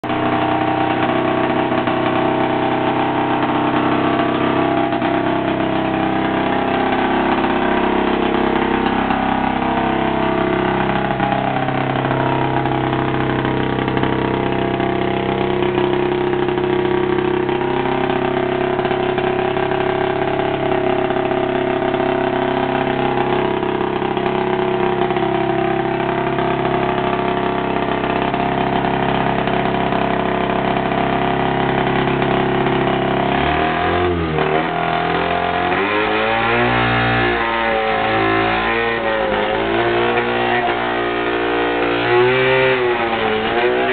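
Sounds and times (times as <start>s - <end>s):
two-stroke engine idling and revving: 0.0s - 43.9s.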